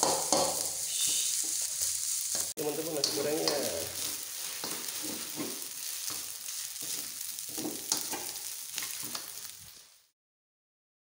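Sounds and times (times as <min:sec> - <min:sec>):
spatula scraping a pan: 0:00.0 - 0:09.5
rice sizzling in a wok: 0:00.0 - 0:10.2.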